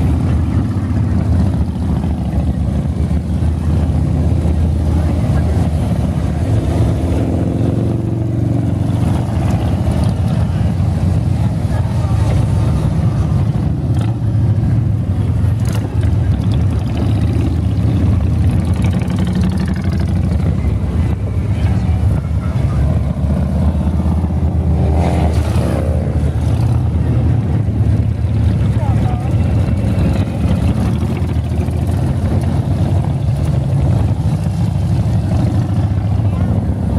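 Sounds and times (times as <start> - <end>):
motorcycles riding past: 0.0 - 36.9.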